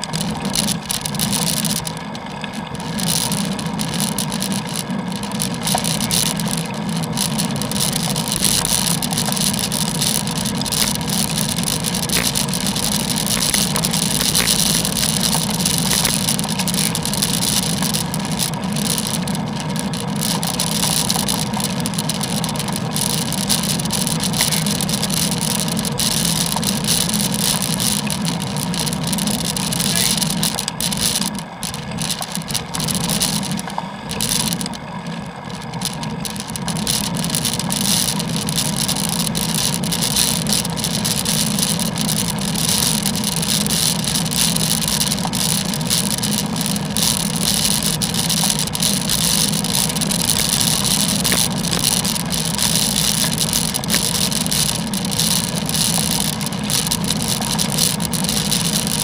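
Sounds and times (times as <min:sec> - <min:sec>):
bicycle road noise: 0:00.0 - 0:59.0.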